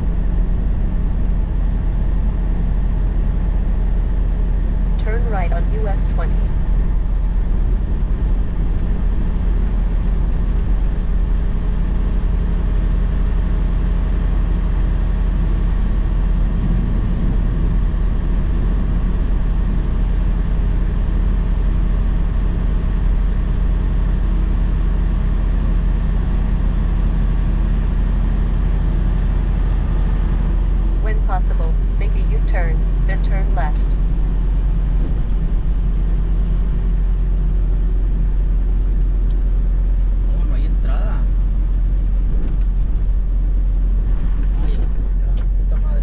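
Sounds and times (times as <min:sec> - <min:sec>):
road noise: 0:00.0 - 0:46.0
truck engine drone: 0:00.0 - 0:46.0.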